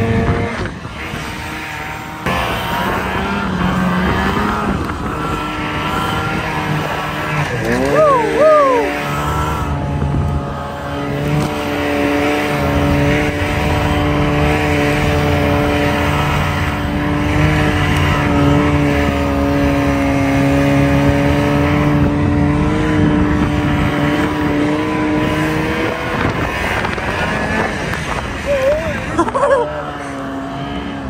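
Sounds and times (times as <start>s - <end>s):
snowmobile engine running: 0.0s - 31.0s.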